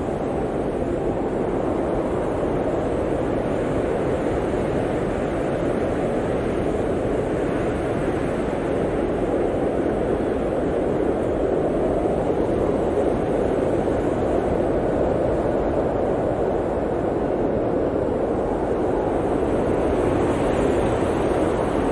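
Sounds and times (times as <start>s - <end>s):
blizzard wind rushing: 0.0s - 21.9s.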